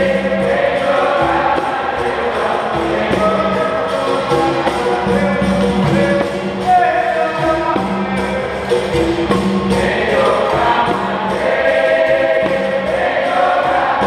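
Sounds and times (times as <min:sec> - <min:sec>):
berimbaus and pandeiro playing: 0:00.0 - 0:14.0
chorus of voices singing: 0:00.0 - 0:14.0.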